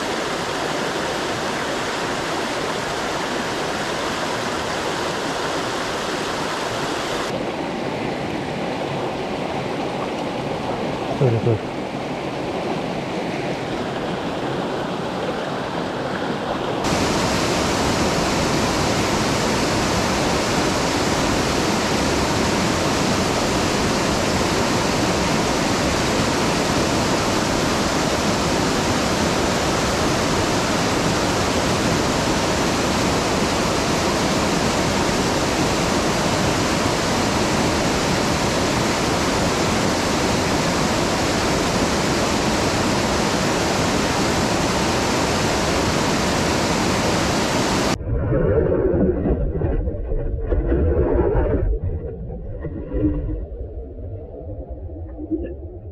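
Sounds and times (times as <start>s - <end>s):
mountain stream rushing: 0.0s - 48.0s.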